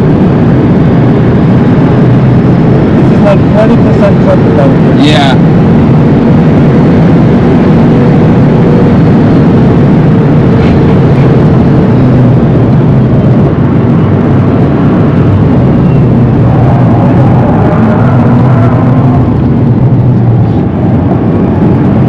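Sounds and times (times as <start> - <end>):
low hum: 0.0 - 22.0
road and tyre noise: 0.0 - 22.0.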